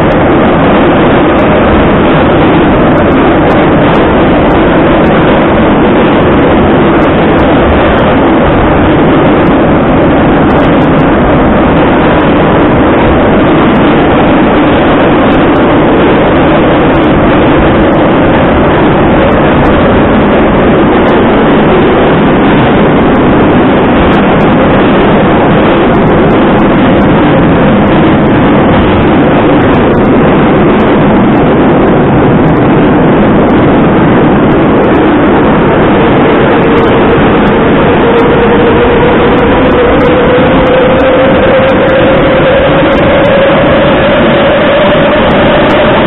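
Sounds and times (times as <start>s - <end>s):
hum: 0.0s - 46.0s
subway train running through tunnel: 0.0s - 46.0s.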